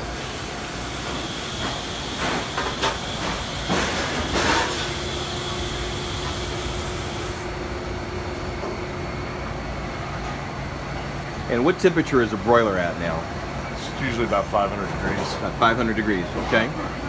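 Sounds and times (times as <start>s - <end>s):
kitchen equipment roar and hiss: 0.0s - 17.0s
steady hum: 0.0s - 17.0s.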